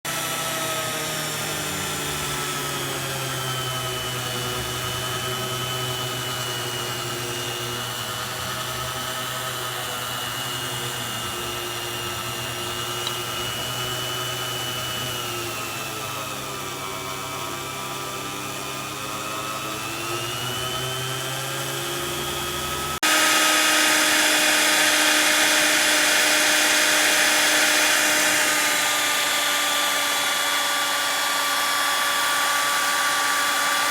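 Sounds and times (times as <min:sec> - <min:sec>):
router spindle motor whining: 0:00.1 - 0:33.9.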